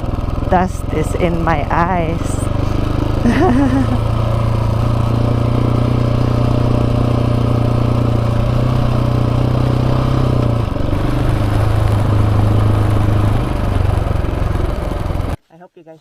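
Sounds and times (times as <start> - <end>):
dirt bike engine running: 0.0 - 15.4.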